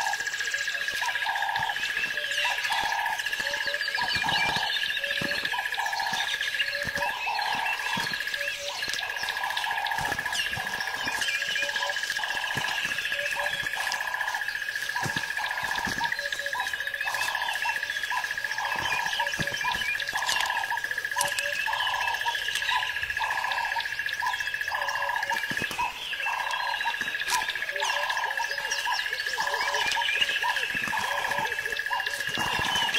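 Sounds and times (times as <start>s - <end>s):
bird chirps: 0.0s - 32.9s
low repeating animal call: 0.0s - 32.9s.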